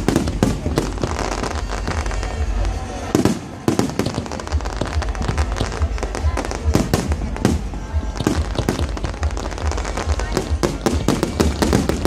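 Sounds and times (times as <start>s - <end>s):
fireworks booming and cracking: 0.0s - 12.0s.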